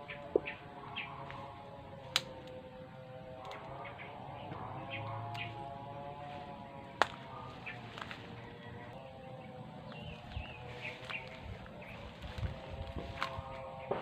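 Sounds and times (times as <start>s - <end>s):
birds chirping: 0.0s - 14.0s
footsteps through undergrowth: 0.0s - 14.0s
steady background drone: 0.0s - 14.0s.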